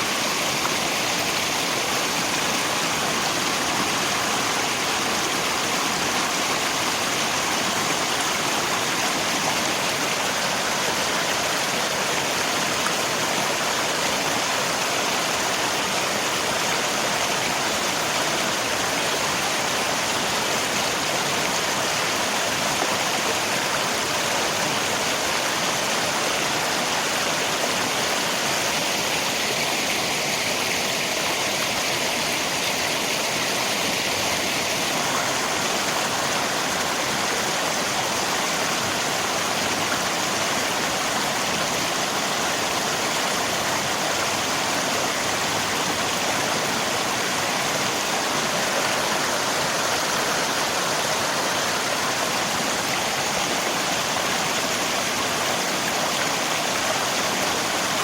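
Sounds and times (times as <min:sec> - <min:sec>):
rain: 0:00.0 - 0:58.0
rushing river water: 0:00.0 - 0:58.0.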